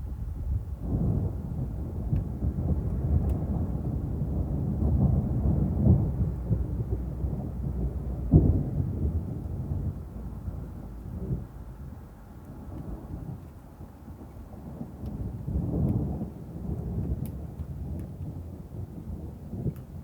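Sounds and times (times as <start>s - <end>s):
thunder clap: 0.0s - 20.0s
thunder rumbling: 0.0s - 20.0s.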